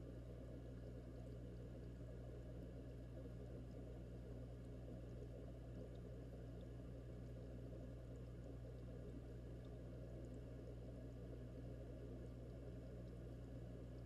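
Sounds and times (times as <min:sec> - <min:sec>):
low aquarium hum: 0:00.0 - 0:14.0.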